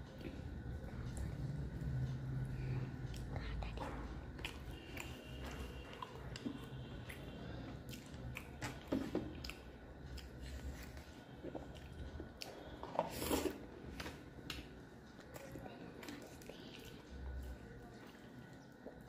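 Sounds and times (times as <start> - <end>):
chewing and mouth smacks: 3.0 - 19.0.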